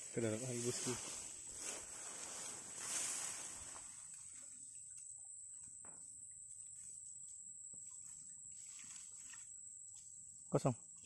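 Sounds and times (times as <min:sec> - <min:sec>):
rustle: 0:00.0 - 0:11.0.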